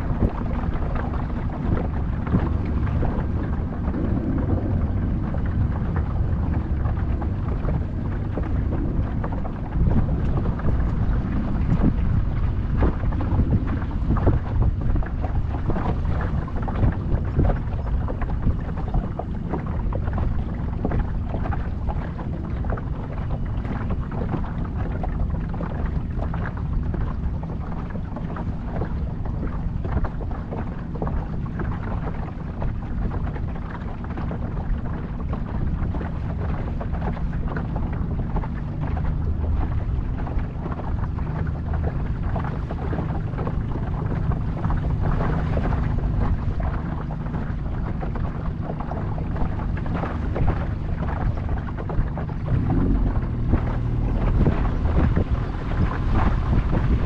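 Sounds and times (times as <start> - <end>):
motor boat engine running: 0.0 - 57.0
wind buffeting microphone: 0.0 - 57.0.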